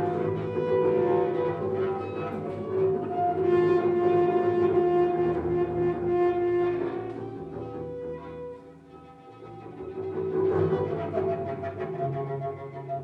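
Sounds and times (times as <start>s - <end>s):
bowed double basses: 0.0s - 13.0s.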